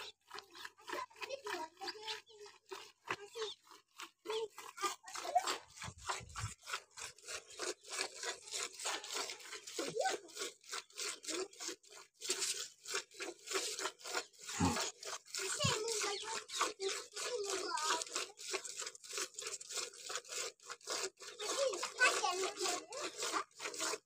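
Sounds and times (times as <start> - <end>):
milk squirting into bucket: 0.0 - 24.0.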